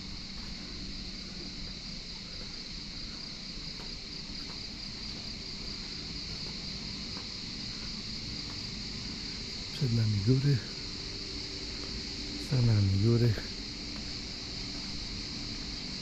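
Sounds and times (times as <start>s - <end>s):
faint footsteps: 0.0s - 16.0s
insects chirping: 0.0s - 16.0s
low outdoor rumble: 0.0s - 16.0s.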